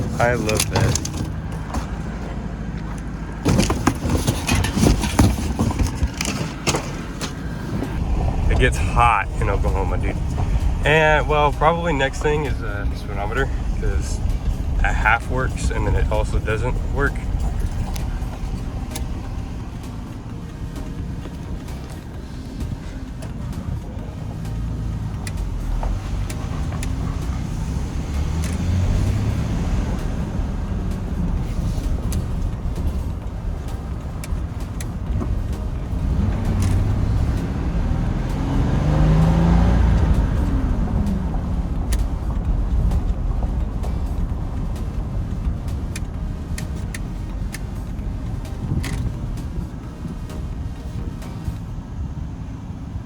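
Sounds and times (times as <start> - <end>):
truck engine and road rumble: 0.0 - 53.0.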